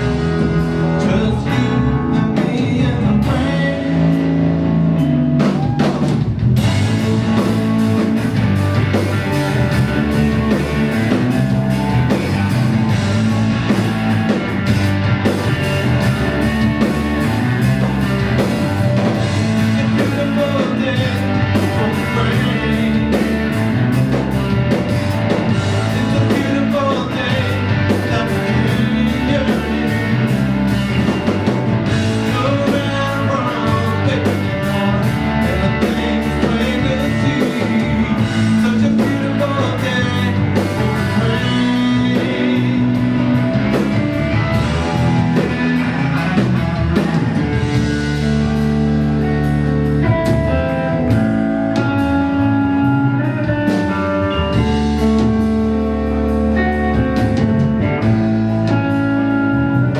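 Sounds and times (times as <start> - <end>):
bending guitar notes: 0.0 - 59.9
live blues-rock band playing: 0.0 - 59.9.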